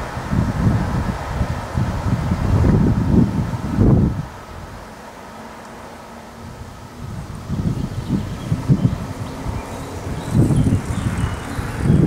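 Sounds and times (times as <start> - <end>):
wind buffeting microphone: 0.0 - 4.9, 6.3 - 12.0.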